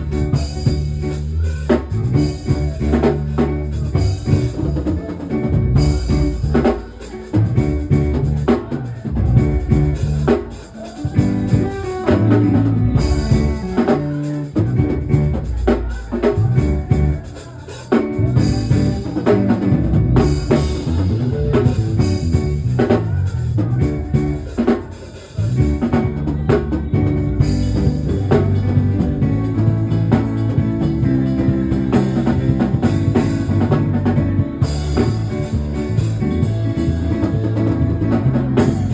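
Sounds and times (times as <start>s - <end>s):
instrumental rock music: 0.0s - 38.9s.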